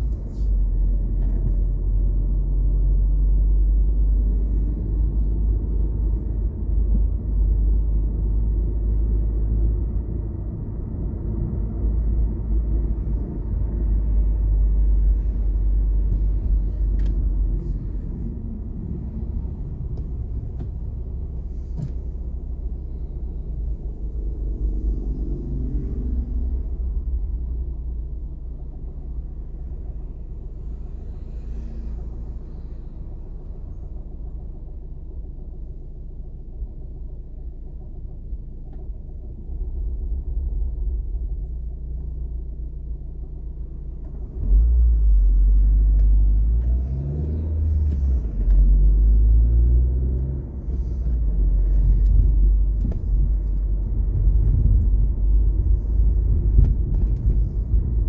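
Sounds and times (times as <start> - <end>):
car engine accelerating: 0.0 - 58.0
road rumble inside car: 0.0 - 58.0.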